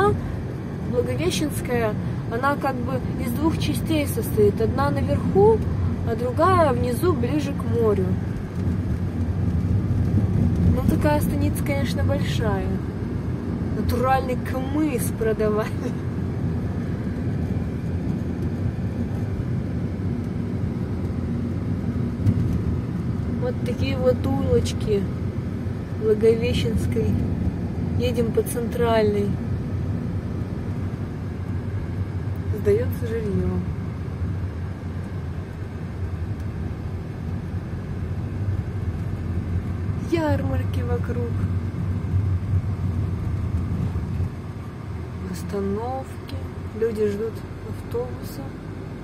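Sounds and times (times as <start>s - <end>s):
car engine inside cabin: 0.0s - 49.0s
tyres on asphalt road: 0.0s - 49.0s.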